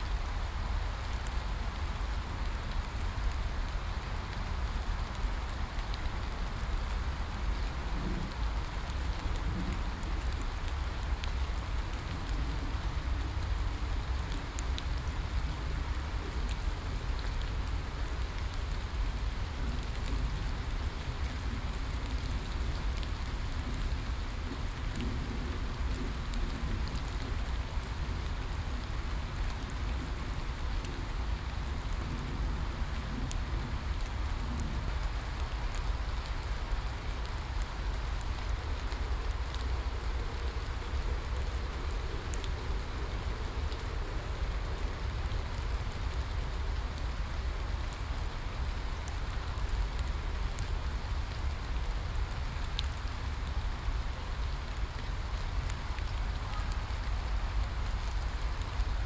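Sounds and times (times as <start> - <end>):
heavy rain on leaves: 0.0 - 59.0.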